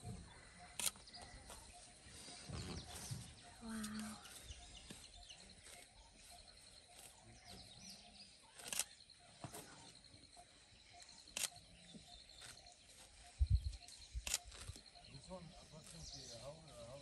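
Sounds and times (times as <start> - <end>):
faint bird calls: 0.0 - 17.0.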